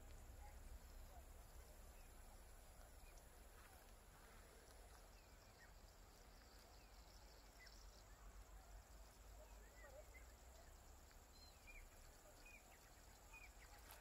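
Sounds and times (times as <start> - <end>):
faint high chirps: 0.0 - 14.0.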